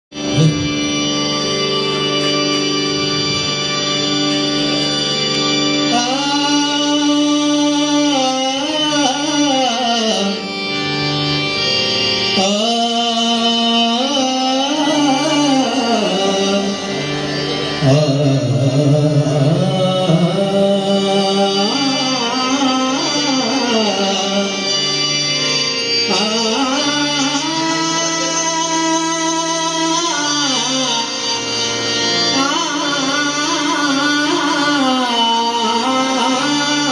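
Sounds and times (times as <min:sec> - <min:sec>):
steady held drone: 0:00.2 - 0:36.9.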